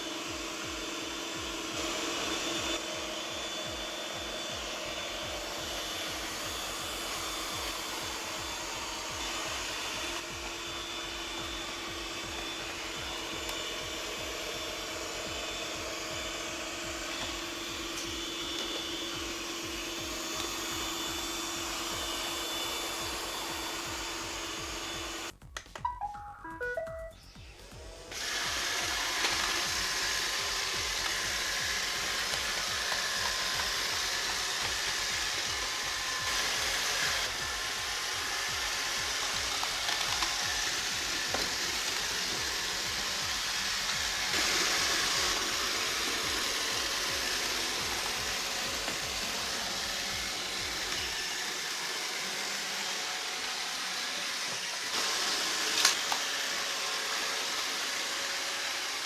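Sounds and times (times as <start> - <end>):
robot vacuum cleaner whirring: 0.0 - 25.4, 27.4 - 59.0.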